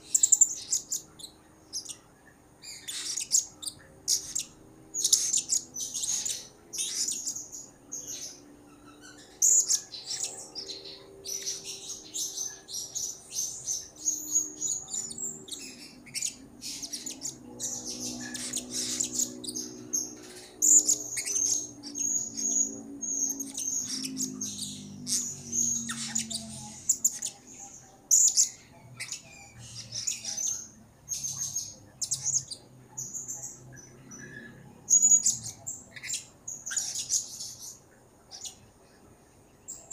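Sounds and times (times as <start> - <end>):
parrot chirping: 0.0 - 38.7.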